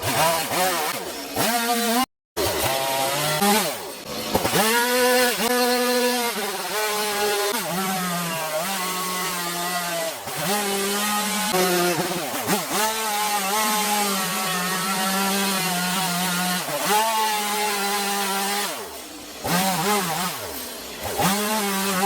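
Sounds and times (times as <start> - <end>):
chainsaw revving while carving wood: 0.0 - 22.0.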